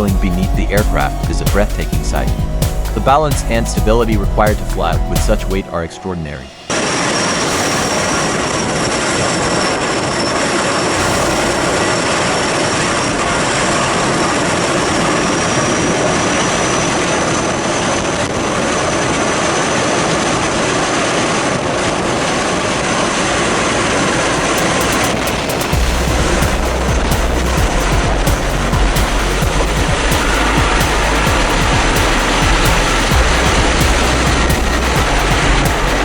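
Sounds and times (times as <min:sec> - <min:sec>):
helicopter rotor and turbine noise: 0:00.0 - 0:36.0
high turbine whine: 0:00.0 - 0:36.0.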